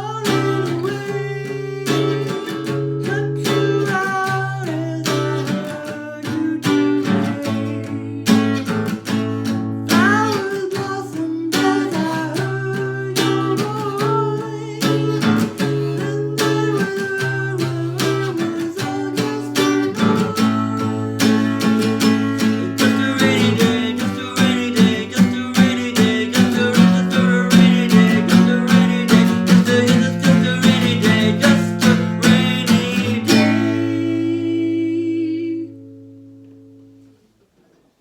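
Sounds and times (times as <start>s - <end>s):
acoustic guitar strumming: 0.0s - 37.3s.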